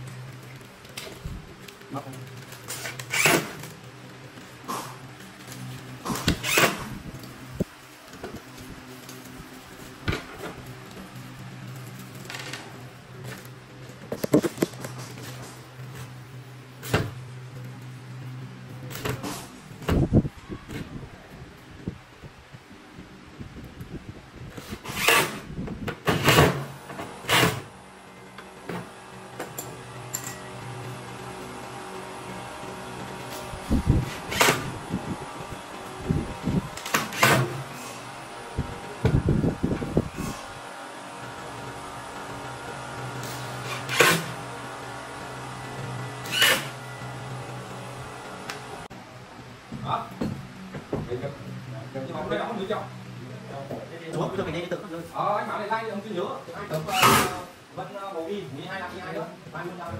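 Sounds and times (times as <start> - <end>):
steady low hum: 0.0 - 56.7.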